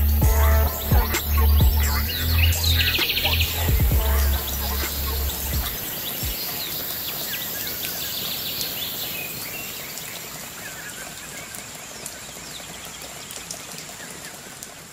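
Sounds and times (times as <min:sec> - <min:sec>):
birds chirping: 0:00.0 - 0:14.3
steady outdoor hiss: 0:00.0 - 0:14.9.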